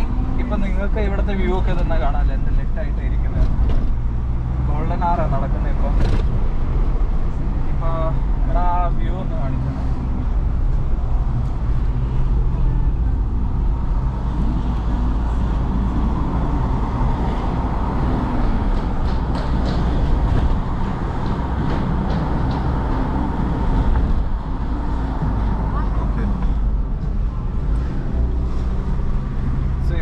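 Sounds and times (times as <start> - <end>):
car engine: 0.0 - 30.0
road noise inside car: 0.0 - 30.0.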